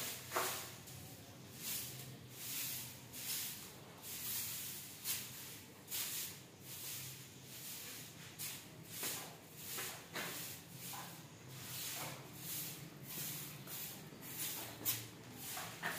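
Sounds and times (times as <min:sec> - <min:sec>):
broom sweeping stone floor: 0:00.0 - 0:15.9.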